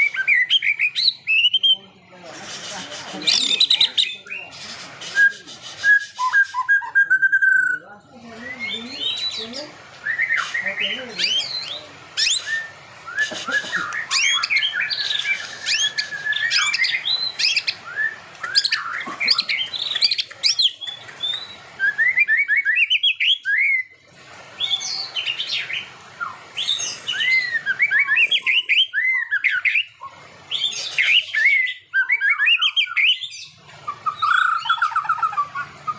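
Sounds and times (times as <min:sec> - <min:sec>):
bird singing whistles and chirps: 0:00.0 - 0:01.8, 0:03.2 - 0:23.9, 0:24.6 - 0:35.9.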